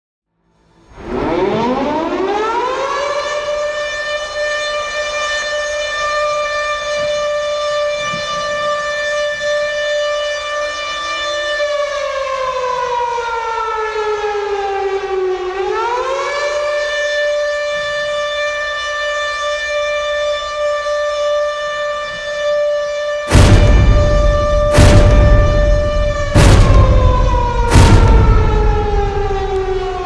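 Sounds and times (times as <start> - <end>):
siren wailing: 0.6 - 30.0.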